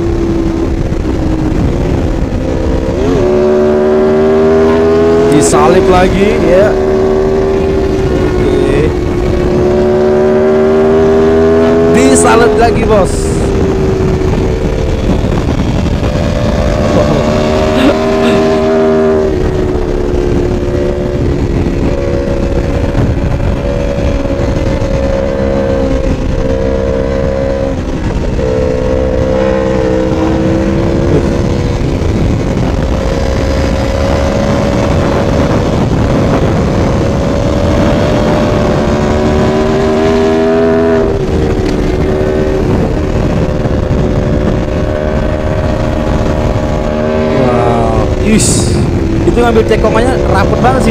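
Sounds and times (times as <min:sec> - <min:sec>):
motorcycle engine at high revs: 0:00.0 - 0:50.9
wind noise: 0:00.0 - 0:50.9.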